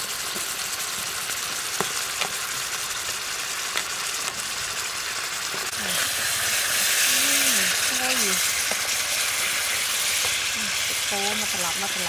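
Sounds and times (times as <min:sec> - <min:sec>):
meat sizzling on a griddle: 0:00.0 - 0:12.0
fat popping and crackling: 0:00.3 - 0:02.6, 0:03.6 - 0:04.5, 0:05.5 - 0:11.9.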